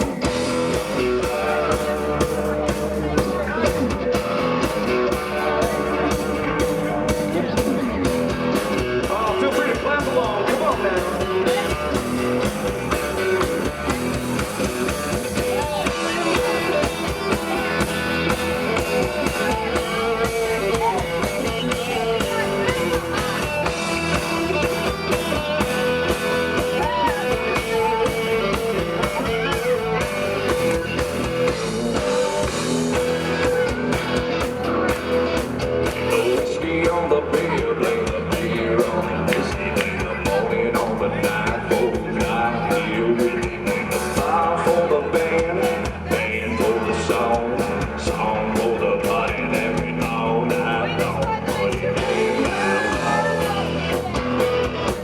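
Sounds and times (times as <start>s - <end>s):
drums steady beat: 0.0s - 55.0s
electric guitar: 0.0s - 55.0s.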